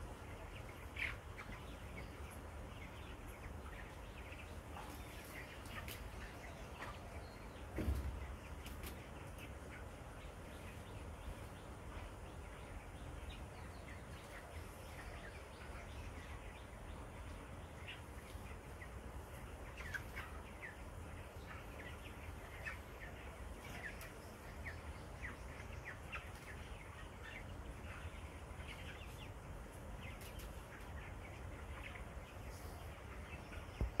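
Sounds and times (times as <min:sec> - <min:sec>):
chicks peeping: 0:00.0 - 0:34.0.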